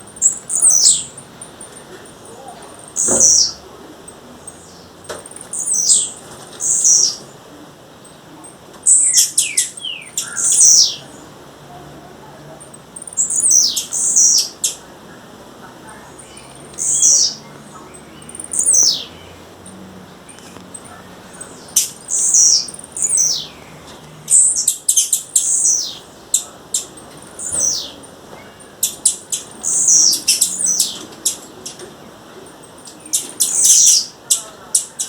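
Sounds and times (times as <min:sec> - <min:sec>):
bird calling: 0:00.0 - 0:31.9, 0:32.5 - 0:35.0.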